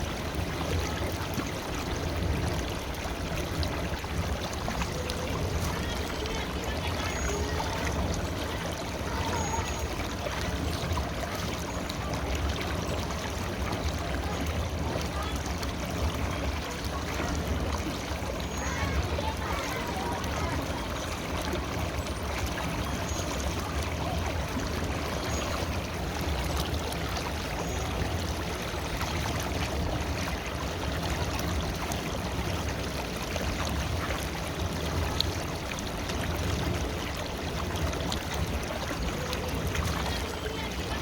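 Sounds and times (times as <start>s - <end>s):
river water flowing: 0.0s - 41.0s.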